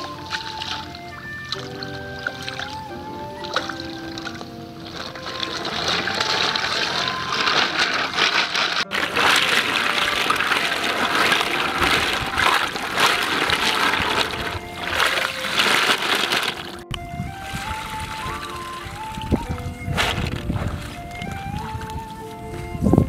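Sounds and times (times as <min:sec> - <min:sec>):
water sloshing and splashing: 0:00.0 - 0:23.0
water trickling through basket: 0:00.0 - 0:23.0.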